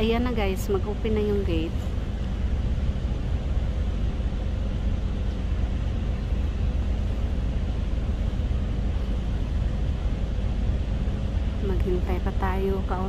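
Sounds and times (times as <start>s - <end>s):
boat engine rumbling: 0.0s - 13.0s
faint steady hum: 0.0s - 13.0s.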